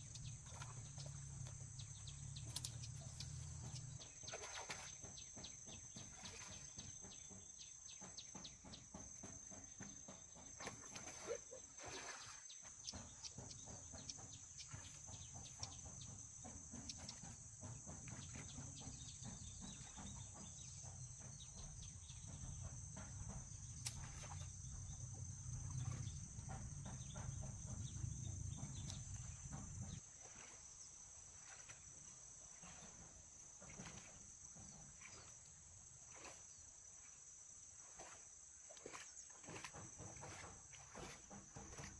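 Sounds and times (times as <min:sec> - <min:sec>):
insect chorus trilling: 0:00.0 - 0:41.9.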